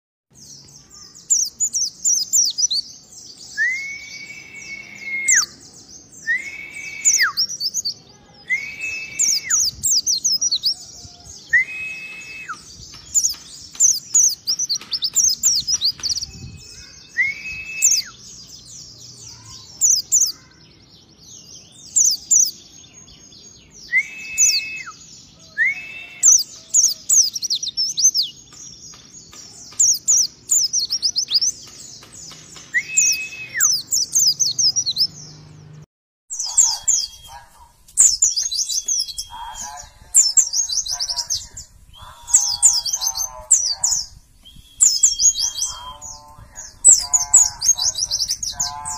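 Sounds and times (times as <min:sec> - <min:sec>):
birds chirping trills: 0:00.3 - 0:48.9.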